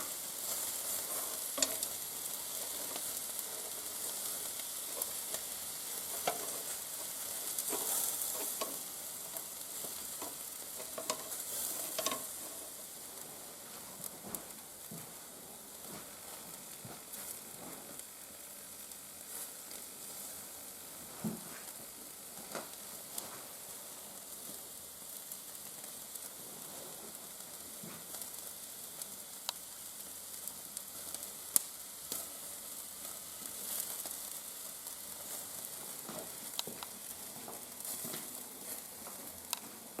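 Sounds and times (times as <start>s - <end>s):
fire crackling: 0.0s - 40.0s
meat sizzling over fire: 0.0s - 40.0s.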